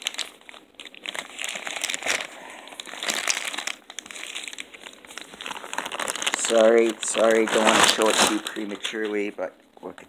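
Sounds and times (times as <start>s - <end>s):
plastic wrapping crinkling: 0.0s - 9.5s.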